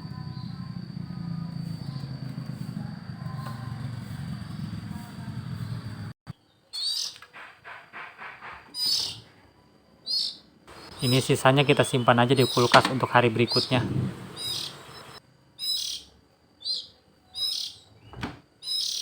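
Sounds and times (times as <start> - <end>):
bird chirps: 0.0 - 8.1, 8.8 - 9.2, 10.1 - 19.0.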